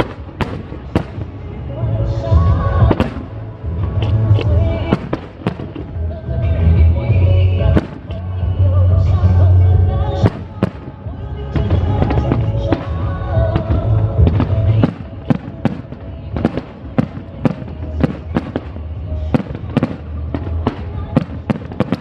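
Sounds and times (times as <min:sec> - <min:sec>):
fireworks banging: 0:00.0 - 0:22.0
music: 0:00.0 - 0:22.0.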